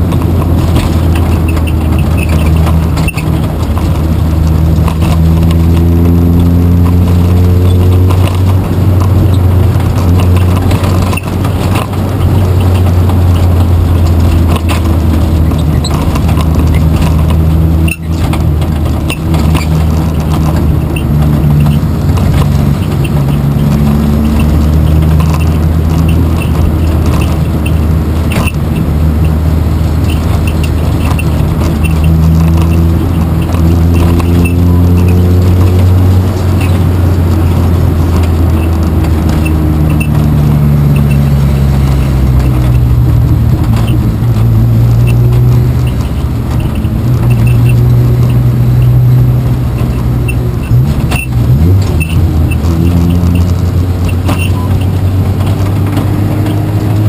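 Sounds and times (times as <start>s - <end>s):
race car engine droning: 0.0s - 57.0s.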